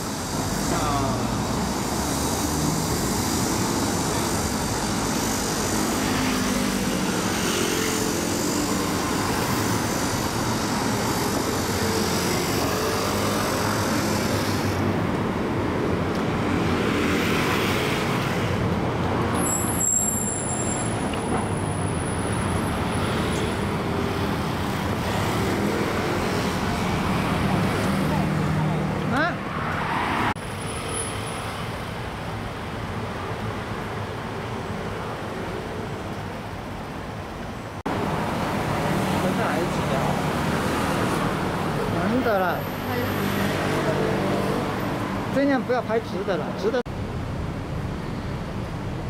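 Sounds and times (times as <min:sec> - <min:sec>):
road traffic noise: 0:00.0 - 0:49.0.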